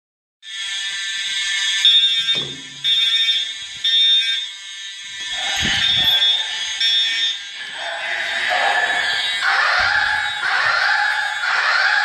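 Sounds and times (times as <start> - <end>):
fire alarm tone: 0.4 - 12.0.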